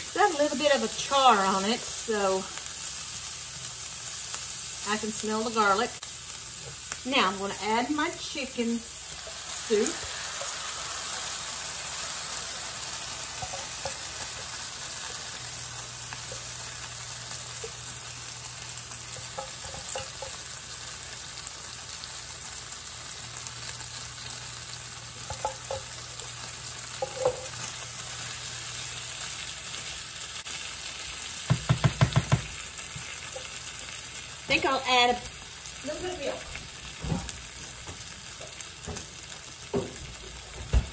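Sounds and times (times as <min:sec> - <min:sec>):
chicken sizzling in a skillet: 0:00.0 - 0:40.9.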